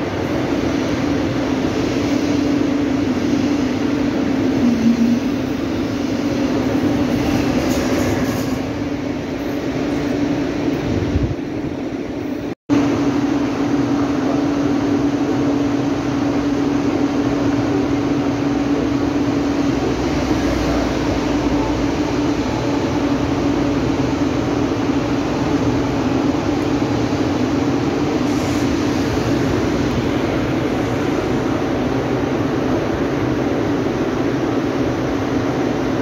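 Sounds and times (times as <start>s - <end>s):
rush of train wheels and air: 0.0s - 36.0s.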